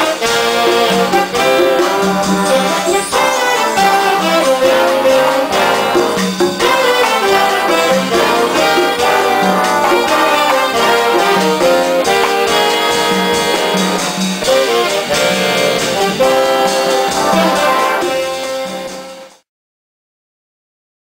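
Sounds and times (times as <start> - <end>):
jazz band with horns: 0.0 - 19.4.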